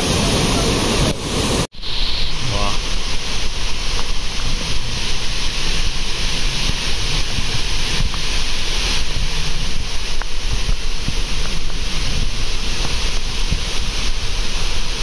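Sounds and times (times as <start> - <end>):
waterfall rushing: 0.0 - 15.0
wind gusting on microphone: 0.0 - 15.0.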